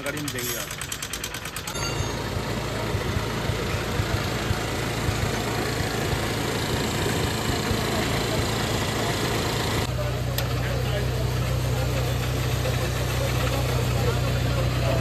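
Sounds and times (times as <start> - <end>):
motorcycle engine idling with knocking: 0.0 - 15.0.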